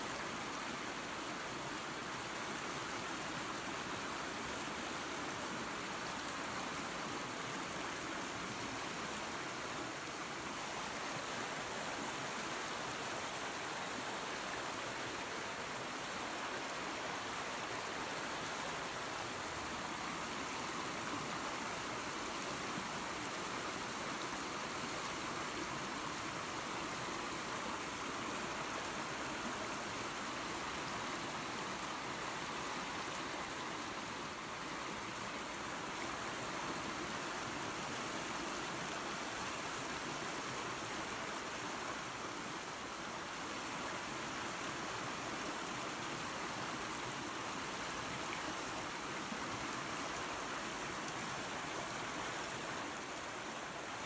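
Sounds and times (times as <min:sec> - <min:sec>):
creek water and waterfall rushing: 0:00.0 - 0:54.0.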